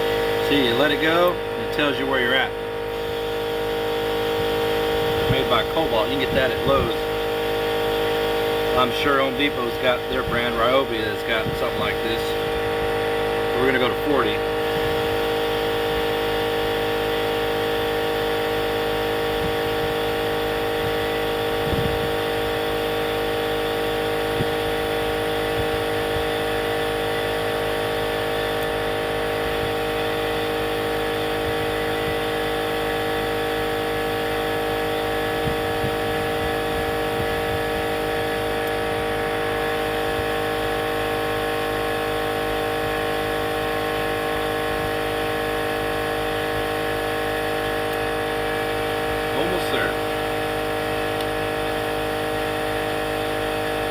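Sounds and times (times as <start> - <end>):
air compressor running: 0.0 - 53.9.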